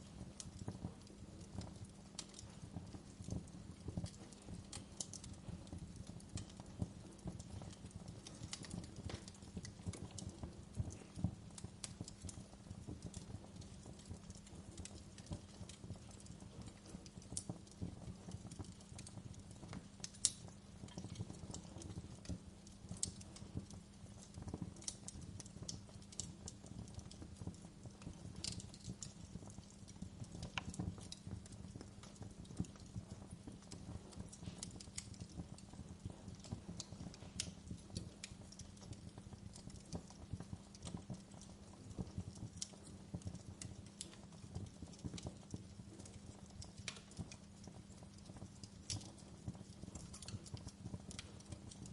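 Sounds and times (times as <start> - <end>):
wood fire crackling and popping: 0.0 - 51.9.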